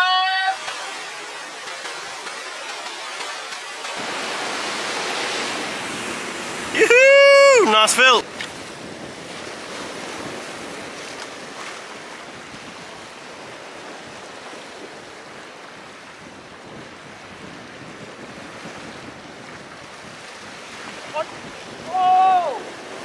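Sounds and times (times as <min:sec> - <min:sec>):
surf washing on rocky shore: 0:00.0 - 0:23.0
wind on microphone: 0:04.0 - 0:23.0.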